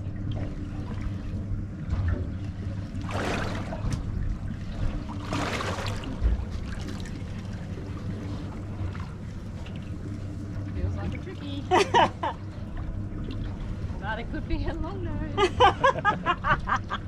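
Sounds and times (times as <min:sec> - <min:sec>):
boat engine idling: 0:00.0 - 0:17.0
water splashing against boat: 0:00.0 - 0:17.0.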